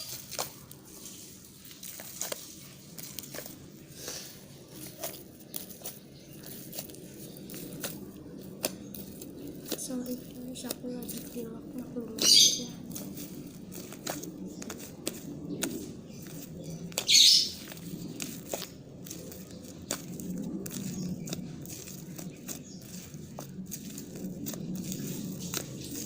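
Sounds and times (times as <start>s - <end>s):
slime squishing by hand: 0.0s - 26.0s.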